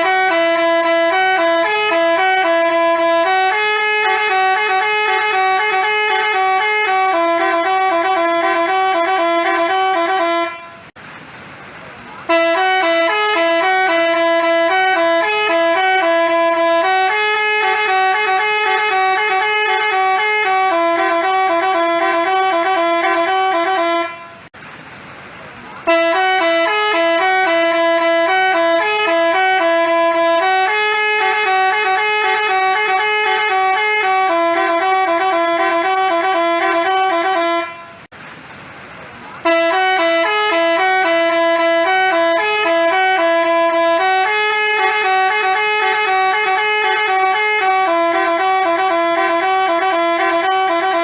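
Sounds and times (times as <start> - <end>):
multi-tone bus horn melody: 0.0 - 11.0, 12.2 - 24.6, 25.8 - 38.1, 39.4 - 51.0.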